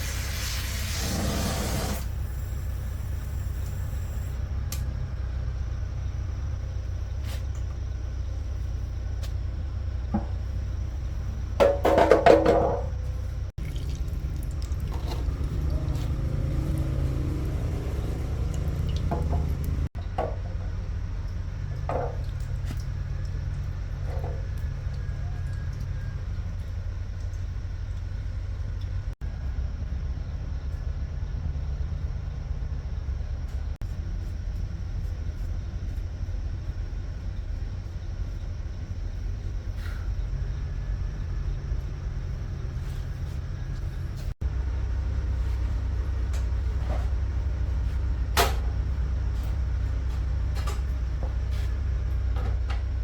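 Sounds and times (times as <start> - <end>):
diesel engine running: 2.0 - 53.0.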